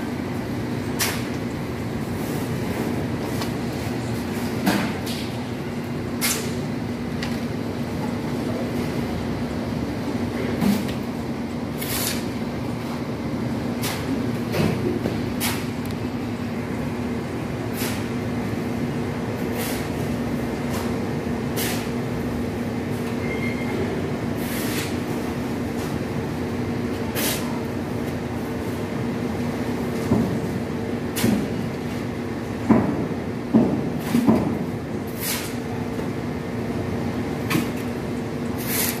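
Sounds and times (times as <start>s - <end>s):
steady machine hum: 0.0s - 39.0s.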